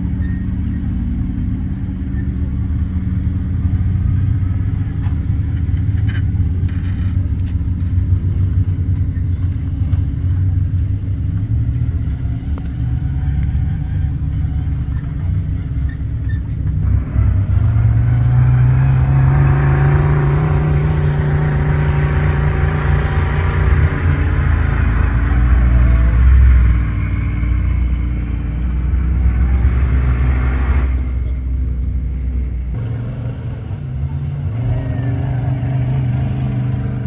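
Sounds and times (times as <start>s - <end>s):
steady low rumble: 0.0s - 35.1s
buggy engine revving: 0.0s - 37.0s.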